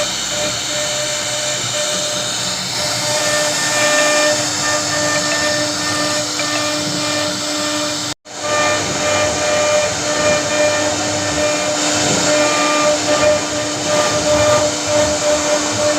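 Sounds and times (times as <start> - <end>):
cnc router carving wood: 0.0 - 15.9.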